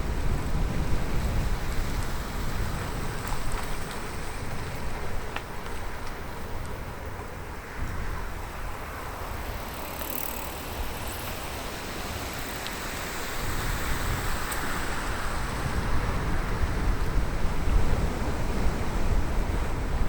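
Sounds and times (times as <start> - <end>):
bicycle tyre road noise: 0.0 - 20.0
wind rumble on microphone: 0.0 - 20.0.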